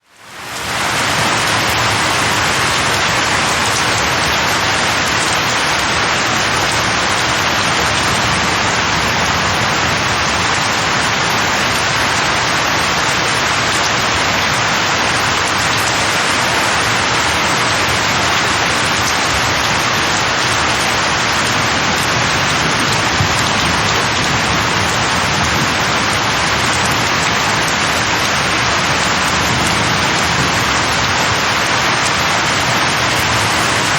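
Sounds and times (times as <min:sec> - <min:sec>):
rain falling on leaves: 0:00.0 - 0:33.9.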